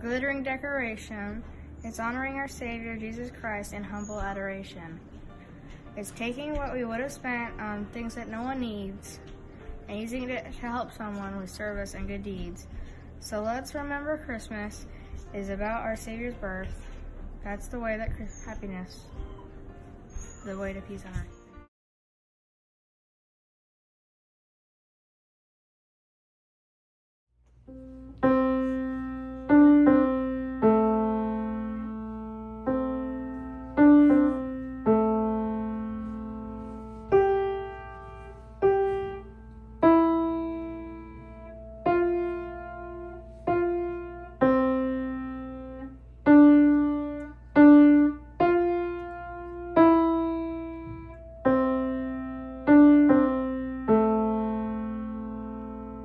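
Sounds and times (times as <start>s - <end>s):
slow piano chords: 0.0s - 21.7s, 27.6s - 56.0s.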